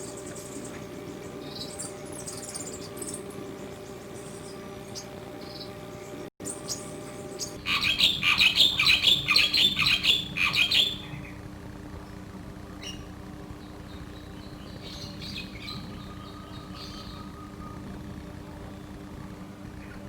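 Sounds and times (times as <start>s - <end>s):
bird singing rapid notes: 0.0s - 11.4s, 12.0s - 19.0s
steady low hum: 0.0s - 20.0s.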